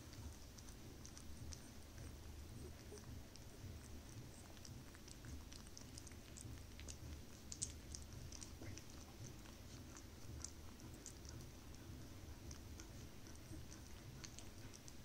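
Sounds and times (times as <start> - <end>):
puppy licking and chewing: 0.0 - 15.0.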